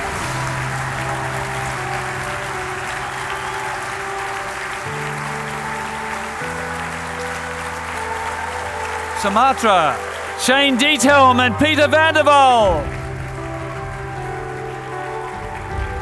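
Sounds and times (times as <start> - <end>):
applause: 0.0 - 16.0
music of long held chords: 0.0 - 16.0.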